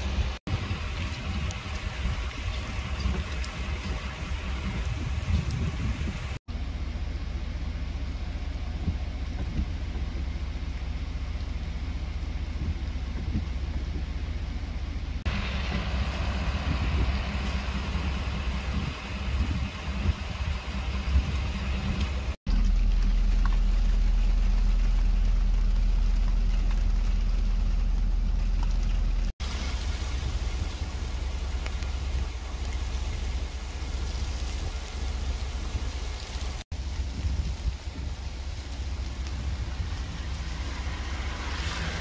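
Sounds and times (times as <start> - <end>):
low rumble: 0.0 - 42.0.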